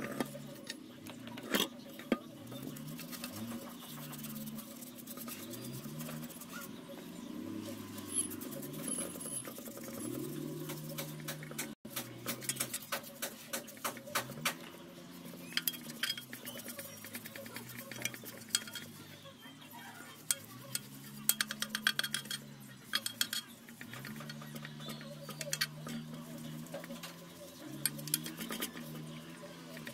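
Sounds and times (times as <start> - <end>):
brush scrubbing metal: 1.5 - 19.2, 20.0 - 29.9.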